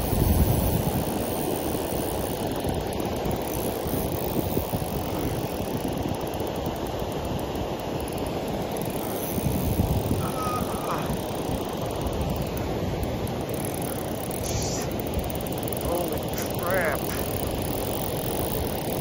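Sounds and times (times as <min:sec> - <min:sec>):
river water flowing: 0:00.0 - 0:19.0
wind: 0:00.0 - 0:19.0.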